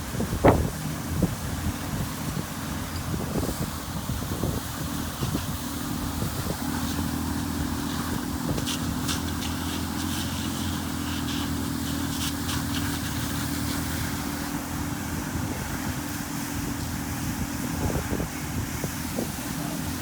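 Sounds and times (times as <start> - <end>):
engine humming: 0.0 - 20.0
wind buffeting microphone: 0.0 - 20.0.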